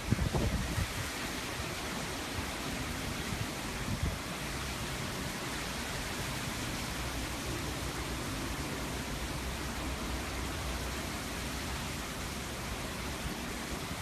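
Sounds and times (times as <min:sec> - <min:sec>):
heavy rain: 0:00.0 - 0:14.0
hurricane wind: 0:00.0 - 0:14.0.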